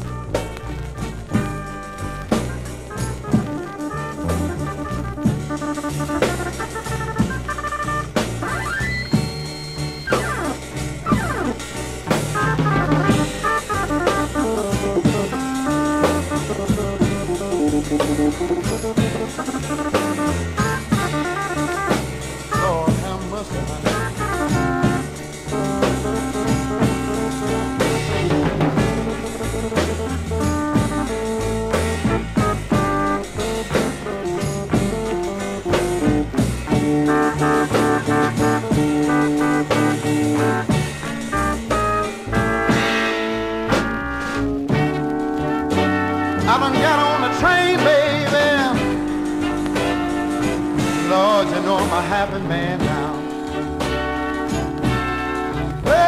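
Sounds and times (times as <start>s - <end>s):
bass: 0.0s - 56.0s
drum kit: 0.0s - 56.0s
lead instrument melody: 0.0s - 56.0s.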